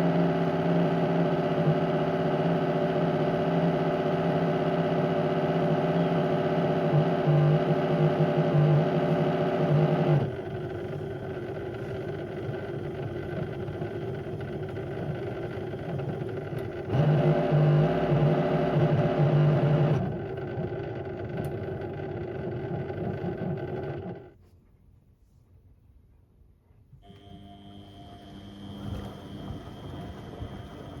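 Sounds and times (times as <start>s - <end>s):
washing machine motor whining: 0.0s - 24.4s, 27.0s - 31.0s.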